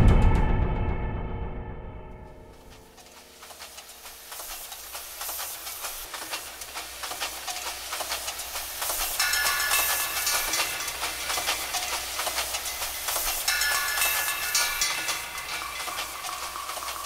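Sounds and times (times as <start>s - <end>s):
train wheels rattling on track: 2.5s - 17.0s
train hiss: 2.6s - 17.0s.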